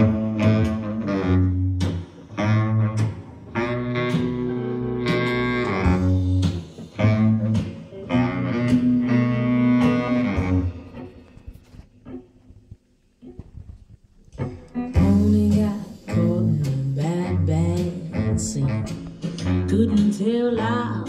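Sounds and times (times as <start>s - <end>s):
recorded music over loudspeakers: 0.0s - 21.0s.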